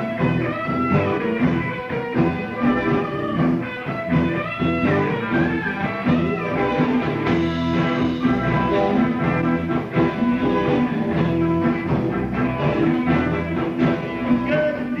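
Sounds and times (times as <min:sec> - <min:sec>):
electric guitar: 0:00.0 - 0:15.0
rock band playing: 0:00.0 - 0:15.0.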